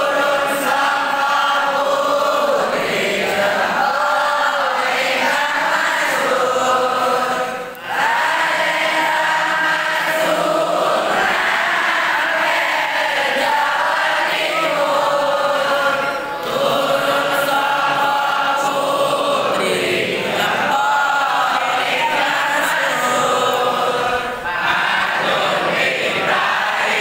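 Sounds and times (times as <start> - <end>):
male voices chanting in unison: 0.0 - 27.0.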